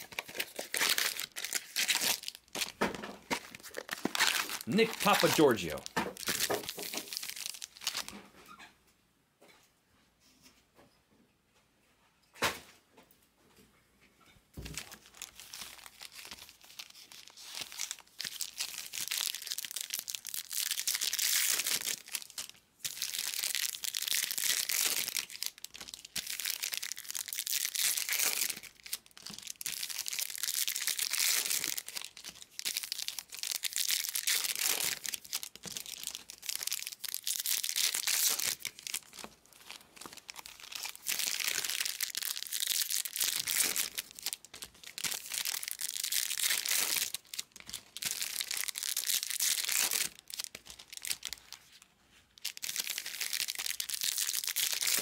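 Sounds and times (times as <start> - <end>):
foil wrappers tearing and crinkling: 0.0 - 8.2, 14.8 - 55.0.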